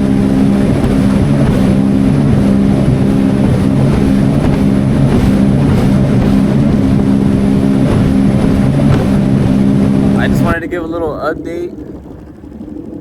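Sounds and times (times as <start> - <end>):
jet ski engine drone: 0.0 - 13.0
wind and water rushing: 0.0 - 13.0.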